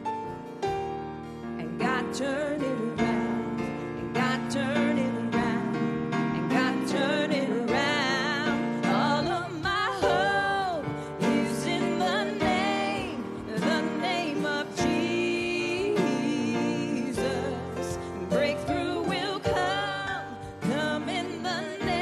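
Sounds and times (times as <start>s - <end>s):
worship band playing: 0.1s - 22.0s.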